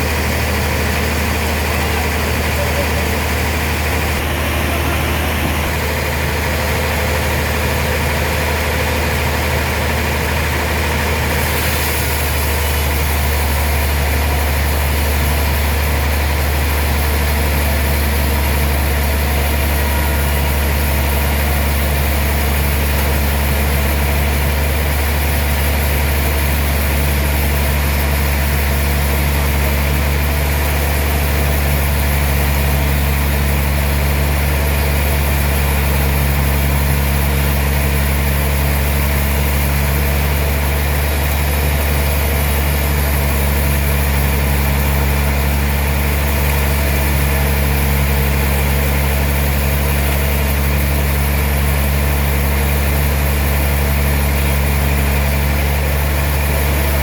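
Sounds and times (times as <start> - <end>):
heavy sawmill machinery humming: 0.0 - 57.0.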